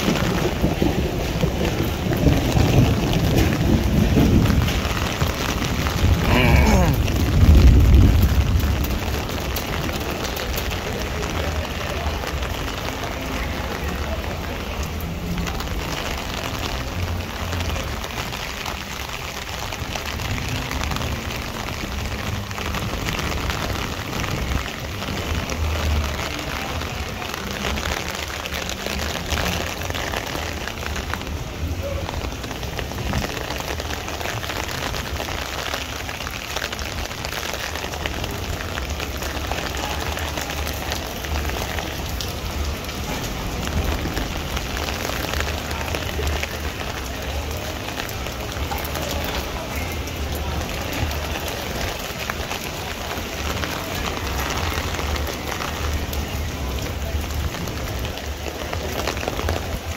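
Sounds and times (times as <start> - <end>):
rain on wet pavement: 0.0 - 59.9.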